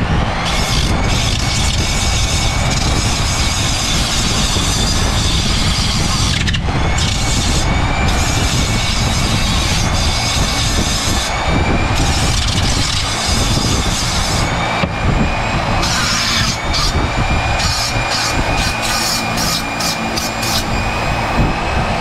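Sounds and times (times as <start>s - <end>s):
rotary tool whining: 0.0s - 22.0s.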